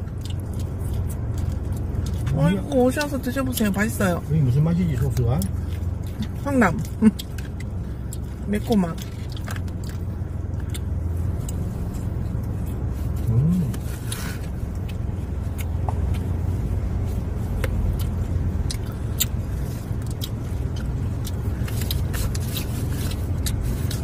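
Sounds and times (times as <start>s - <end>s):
car cabin hum: 0.0s - 24.0s.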